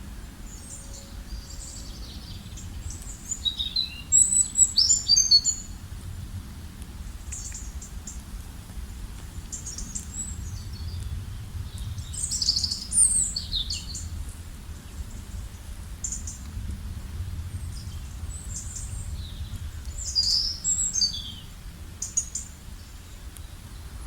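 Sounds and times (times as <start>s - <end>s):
songbirds chirping: 0.0s - 8.4s, 9.0s - 24.0s
steady low rumble: 0.0s - 24.0s.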